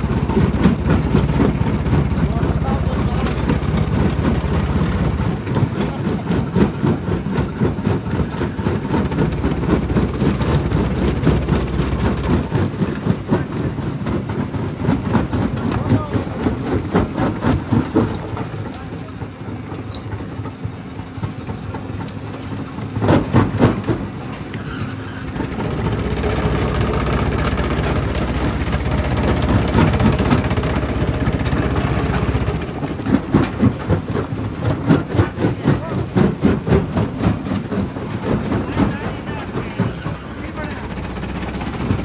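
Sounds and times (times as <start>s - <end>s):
jaw crusher low rumble: 0.0s - 42.0s.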